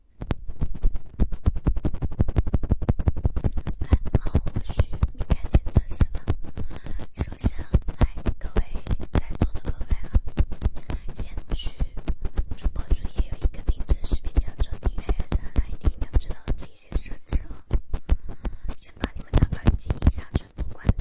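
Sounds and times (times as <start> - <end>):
rapid tapping on microphone: 0.0 - 21.0
scratchy rustling: 0.0 - 21.0.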